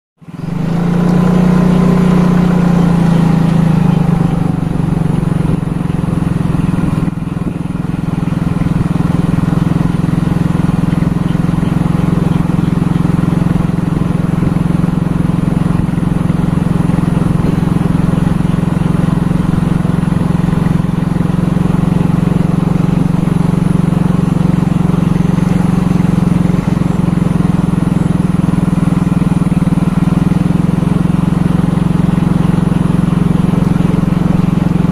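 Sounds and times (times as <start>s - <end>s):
high whine: 0.2s - 34.9s
vehicle engine running: 0.2s - 34.9s.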